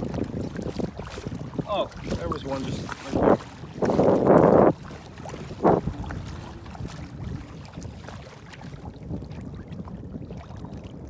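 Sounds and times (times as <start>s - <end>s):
water around a kayak: 0.0s - 11.0s
wind buffeting microphone: 0.0s - 11.0s.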